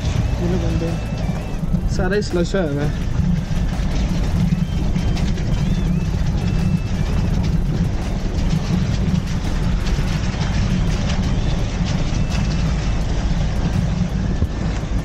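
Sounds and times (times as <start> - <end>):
knocks and rattles: 0.0 - 15.0
vehicle engine and road rumble: 0.0 - 15.0.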